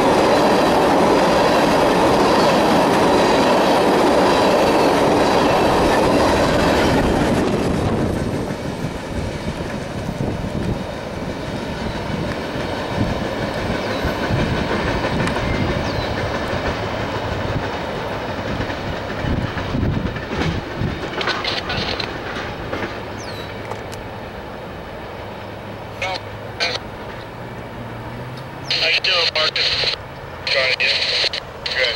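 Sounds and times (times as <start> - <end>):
freight train wheels on rails: 0.0 - 31.9.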